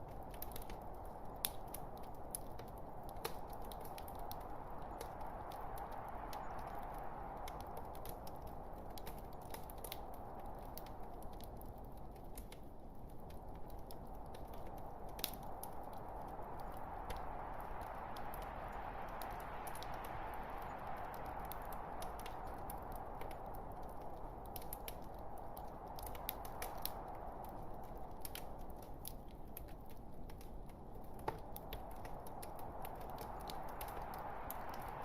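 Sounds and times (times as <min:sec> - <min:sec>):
logs crackling and popping: 0:00.0 - 0:35.0.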